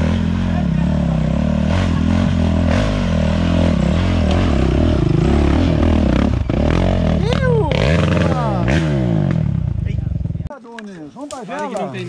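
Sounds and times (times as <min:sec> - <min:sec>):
dirt bike engine revving: 0:00.0 - 0:10.5.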